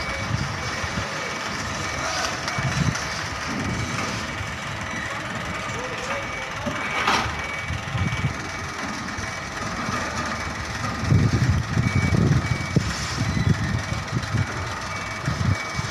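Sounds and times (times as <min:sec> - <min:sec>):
reversing alarm beeps: 0:00.0 - 0:10.2, 0:10.8 - 0:15.9
truck engine: 0:00.0 - 0:15.9.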